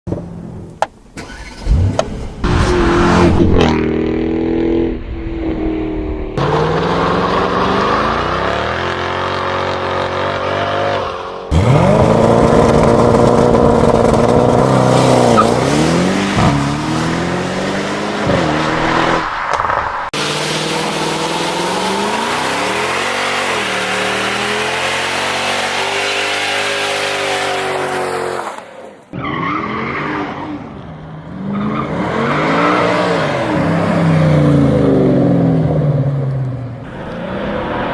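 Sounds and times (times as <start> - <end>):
car engine revving and accelerating: 1.3 - 28.5, 29.3 - 37.9.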